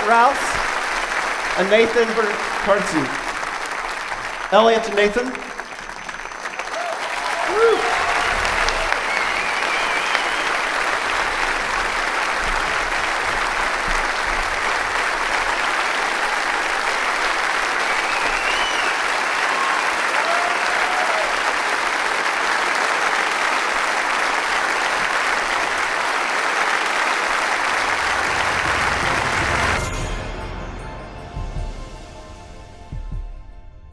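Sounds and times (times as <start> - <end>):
audience applauding: 0.0 - 30.5.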